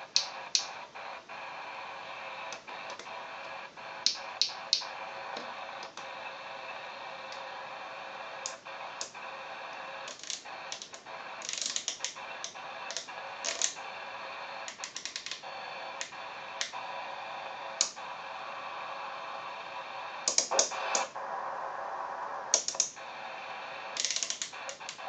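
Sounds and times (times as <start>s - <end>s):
held radio tones: 0.0s - 25.0s
radio buzzing hiss: 0.0s - 25.0s
radio clicks and crackling pops: 0.0s - 25.0s.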